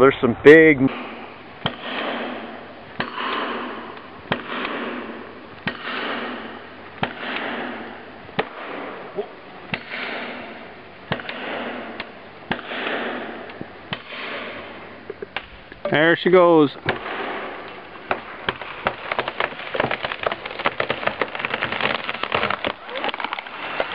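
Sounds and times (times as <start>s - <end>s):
axe chopping tree with echo: 0.9s - 9.0s, 9.7s - 14.7s, 16.8s - 23.9s.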